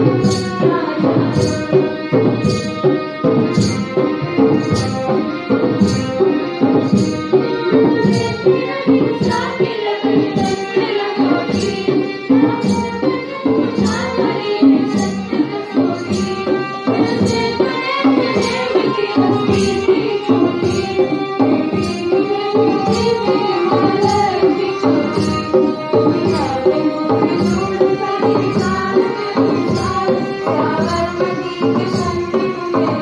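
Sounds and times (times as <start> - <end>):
live music melody: 0.0 - 33.0
steady drum beat: 0.0 - 33.0.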